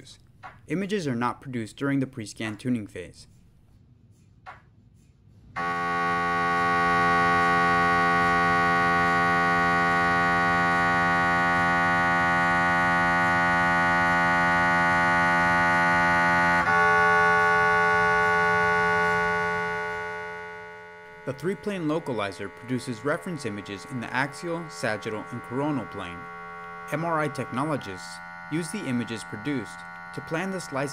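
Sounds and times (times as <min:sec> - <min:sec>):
mri scanner electronic tone: 0:05.6 - 0:30.9.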